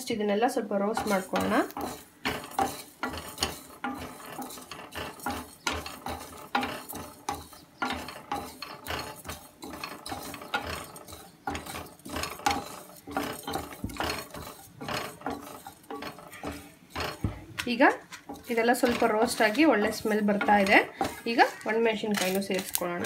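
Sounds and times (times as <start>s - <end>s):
seeds rattling on metal: 0.0s - 23.0s
spatula scraping seeds in a pan: 0.0s - 23.0s.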